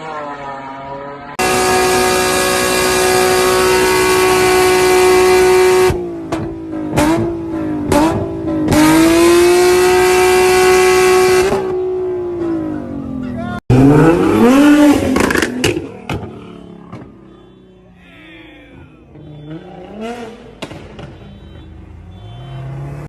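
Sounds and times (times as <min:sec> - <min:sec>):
car engine revving: 0:01.4 - 0:17.6, 0:18.7 - 0:23.0.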